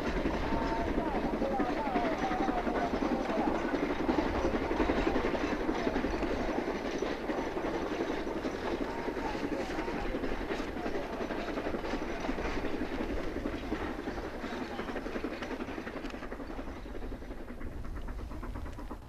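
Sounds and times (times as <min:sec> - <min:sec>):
distant steam locomotive chuffing: 0:00.0 - 0:19.0.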